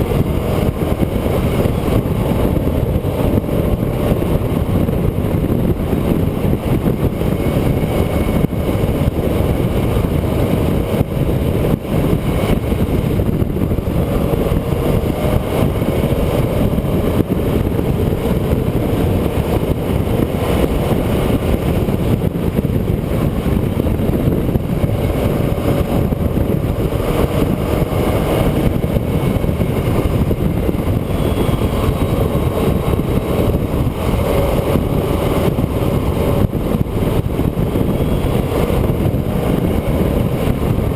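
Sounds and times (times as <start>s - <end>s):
road noise: 0.0s - 40.9s
vehicle engine: 0.0s - 40.9s.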